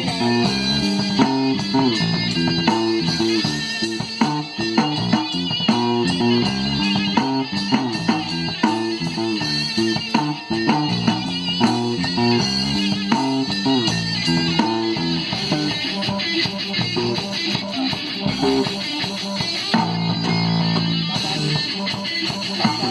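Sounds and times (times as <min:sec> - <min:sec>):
bass line: 0:00.0 - 0:18.8, 0:19.7 - 0:22.9
band playing: 0:00.0 - 0:22.9
electric guitar picked notes: 0:00.0 - 0:22.9.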